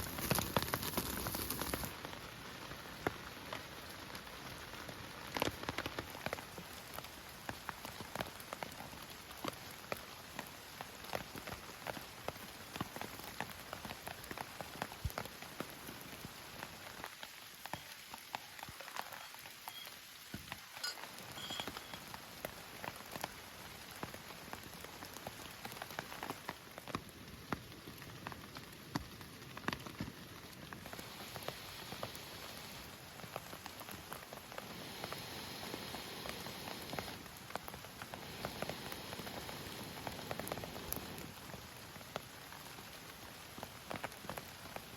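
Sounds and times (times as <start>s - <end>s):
heavy rain on a tent: 0.0s - 44.9s.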